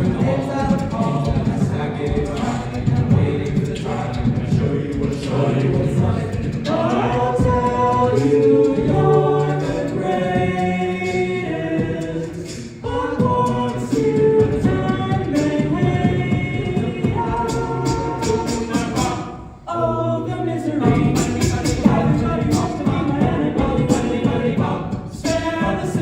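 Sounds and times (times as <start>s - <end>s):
backing voices singing: 0.0s - 26.0s
lead voice singing: 0.0s - 26.0s.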